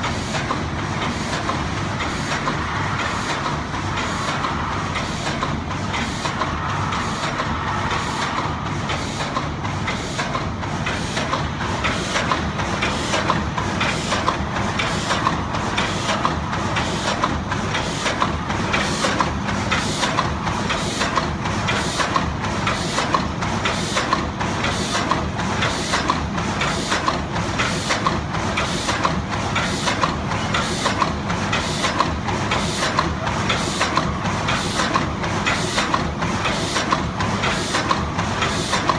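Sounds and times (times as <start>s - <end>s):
machine clattering: 0.0s - 38.9s.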